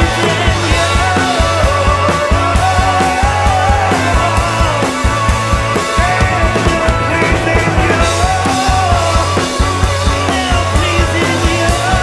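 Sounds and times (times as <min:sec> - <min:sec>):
drums fast beat: 0:00.0 - 0:12.0
electric guitars: 0:00.0 - 0:12.0
keyboard: 0:00.0 - 0:12.0.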